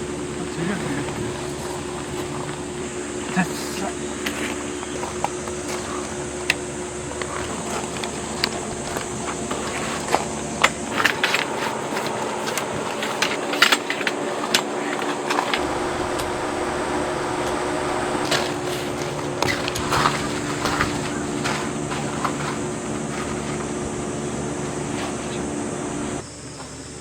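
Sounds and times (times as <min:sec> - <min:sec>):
air conditioner humming: 0:00.0 - 0:27.0.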